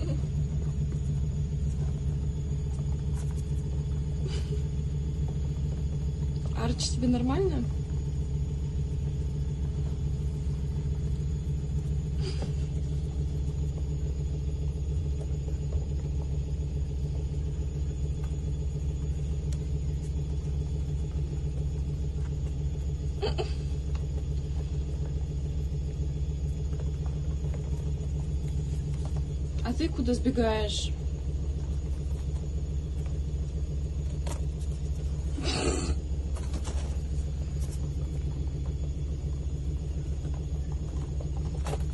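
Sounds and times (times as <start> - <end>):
low mechanical hum: 0.0 - 41.9.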